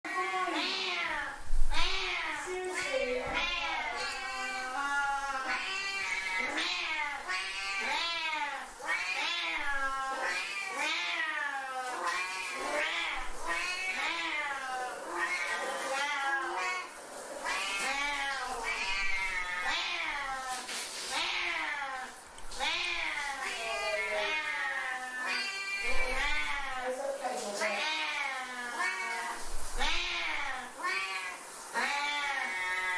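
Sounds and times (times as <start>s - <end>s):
cats yowling: 0.1s - 26.8s, 27.7s - 32.9s.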